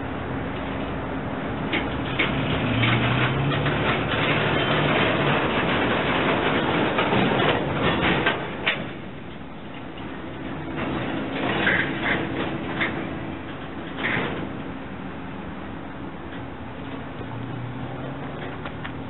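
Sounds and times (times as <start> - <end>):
low diesel engine hum: 0.0 - 19.0
train wheels rumbling and clicking: 0.0 - 19.0.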